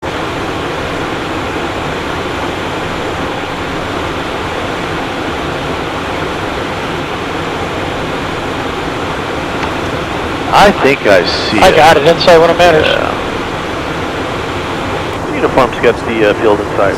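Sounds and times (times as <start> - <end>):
jet cockpit airflow and engine: 0.0 - 16.9.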